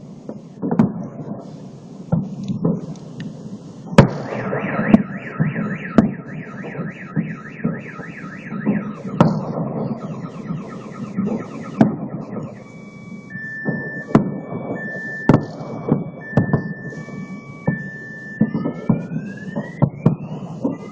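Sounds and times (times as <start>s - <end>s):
fireworks bangs: 0.0s - 20.9s
car alarm wailing: 4.1s - 20.9s.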